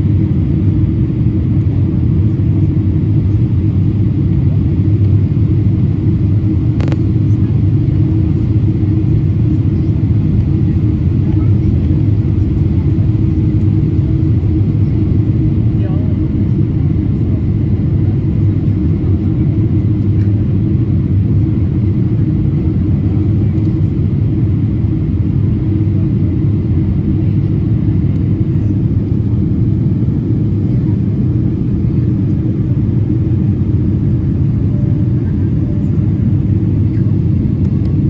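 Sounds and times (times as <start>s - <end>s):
airplane cabin engine rumble: 0.0s - 38.0s.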